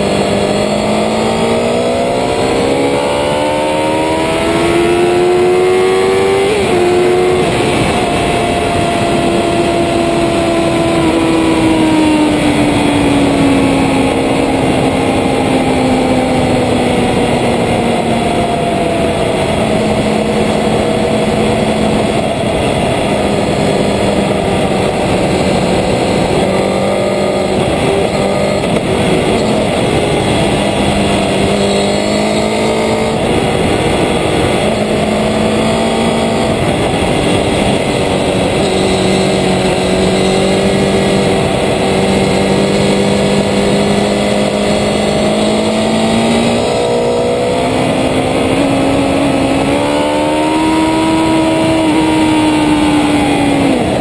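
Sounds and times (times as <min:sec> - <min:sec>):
motorcycle engine racing: 0:00.0 - 0:54.0
wind rush: 0:00.0 - 0:54.0.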